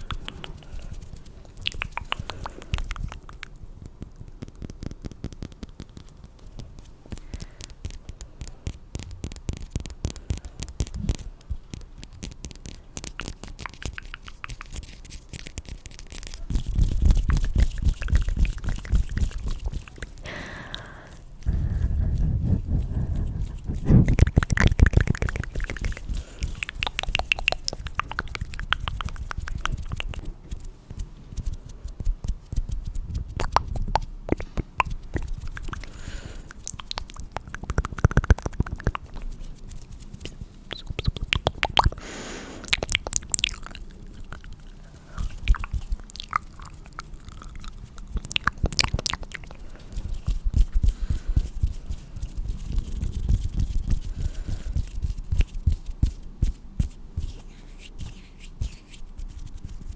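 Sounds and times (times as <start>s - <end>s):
wet mouth clicks: 0.0s - 55.9s.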